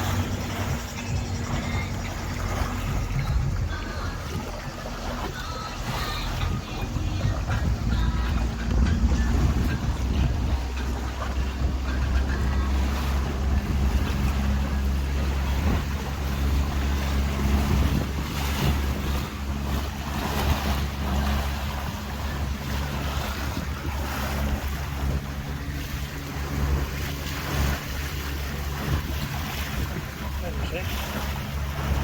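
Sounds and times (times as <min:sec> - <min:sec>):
boat engine running: 0:00.0 - 0:32.0
water rushing past hull: 0:00.0 - 0:32.0
wind buffeting microphone: 0:00.0 - 0:32.0.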